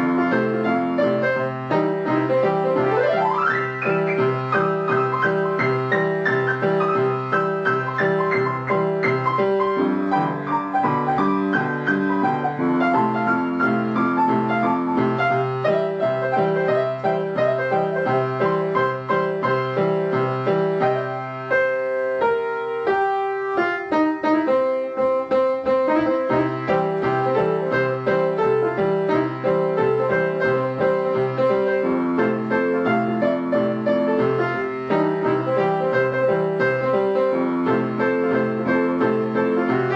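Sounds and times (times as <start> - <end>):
piano music with bouncing bass: 0.0 - 39.9.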